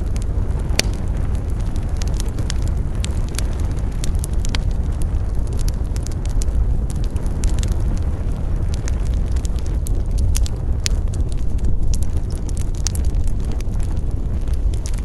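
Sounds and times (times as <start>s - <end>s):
campfire flames roaring: 0.0s - 15.0s
wood crackling and popping: 0.0s - 15.0s.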